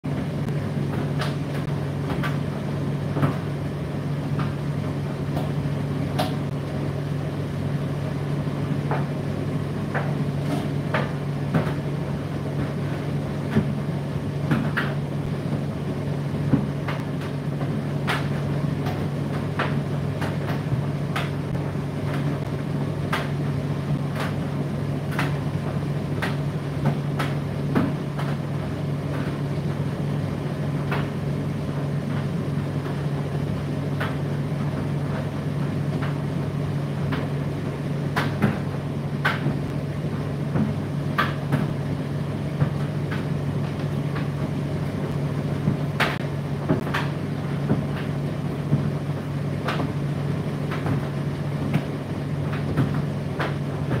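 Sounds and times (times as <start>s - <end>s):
tumble dryer humming: 0.0s - 54.0s.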